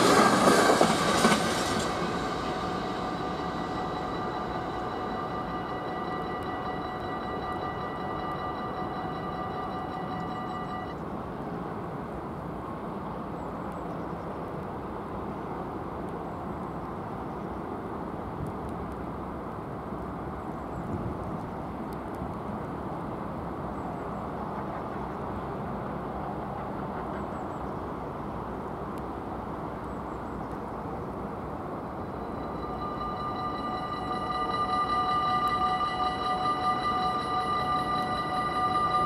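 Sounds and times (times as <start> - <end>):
outdoor rumble and hiss: 0.0 - 34.2.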